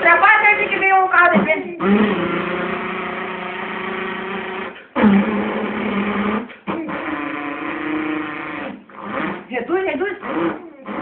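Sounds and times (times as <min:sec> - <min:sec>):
person imitating engine with voice: 0:00.0 - 0:11.0.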